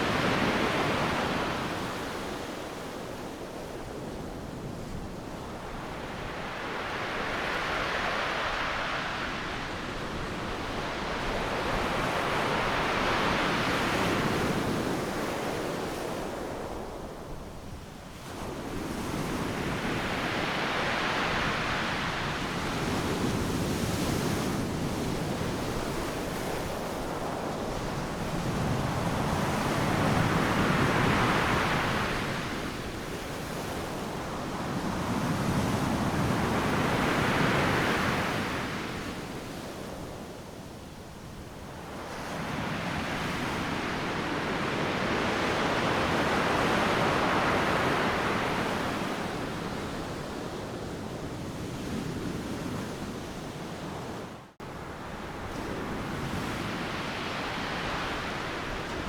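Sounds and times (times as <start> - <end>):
ocean waves breaking on beach: 0.0 - 17.4, 18.4 - 40.6, 41.7 - 59.0.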